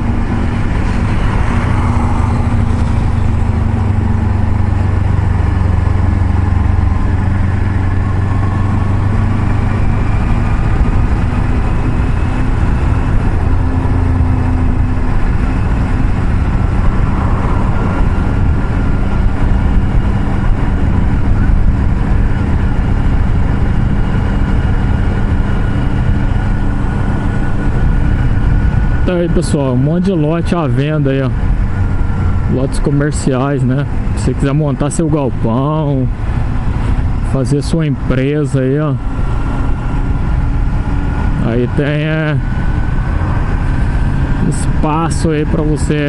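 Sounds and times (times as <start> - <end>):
motorcycle engine running: 0.0 - 46.0
road noise: 0.0 - 46.0
wind noise on microphone: 0.0 - 46.0.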